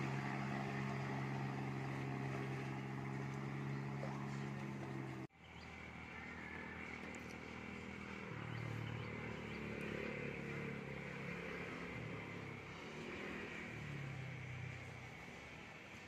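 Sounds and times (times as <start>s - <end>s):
open-air background noise: 0.0s - 16.0s
small motor engine humming: 0.0s - 16.0s.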